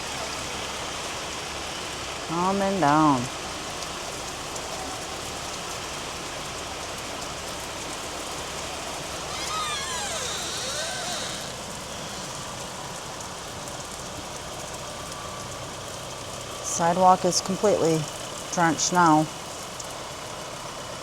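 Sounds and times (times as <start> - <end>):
car tyres hissing on wet street: 0.0 - 21.0
heavy rain on pavement: 0.0 - 21.0.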